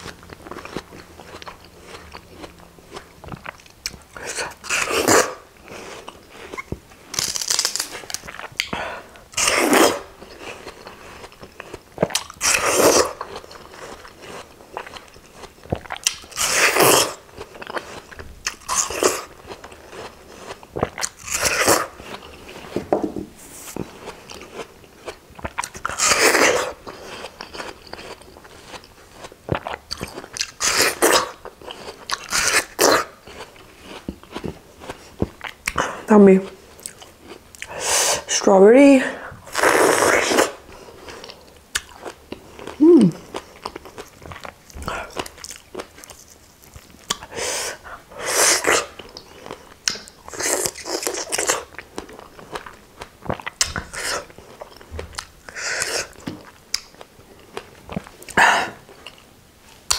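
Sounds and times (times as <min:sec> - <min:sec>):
quiet chewing: 0:00.0 - 0:22.8, 0:23.5 - 0:38.3, 0:39.3 - 0:59.9.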